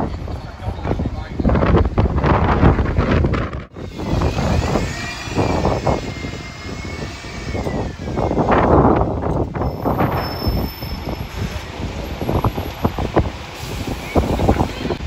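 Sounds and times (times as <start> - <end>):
wind buffeting microphone: 0.0 - 15.0
bus drivetrain whine: 1.8 - 15.0.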